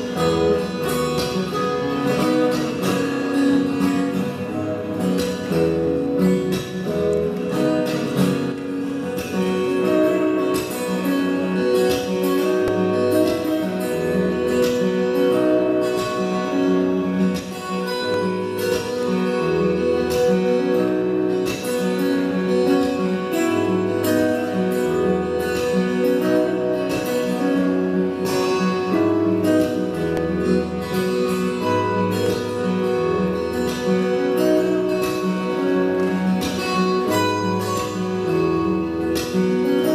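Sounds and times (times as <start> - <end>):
fingerstyle acoustic guitar: 0.0 - 39.9.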